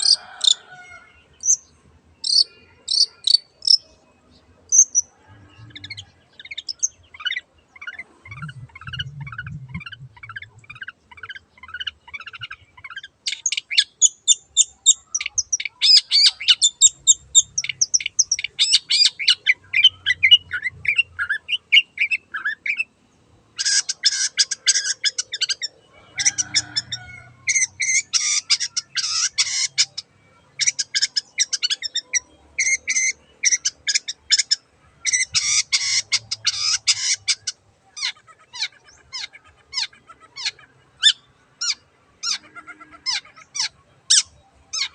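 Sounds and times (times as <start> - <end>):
bird singing high chirps: 0.0 - 22.9, 23.6 - 44.9.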